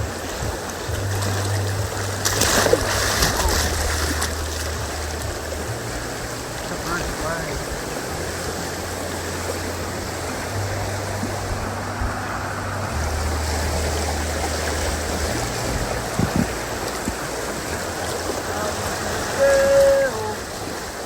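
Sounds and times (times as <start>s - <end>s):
low hum shifting pitch: 0.0s - 20.6s
river water rushing: 0.0s - 21.0s.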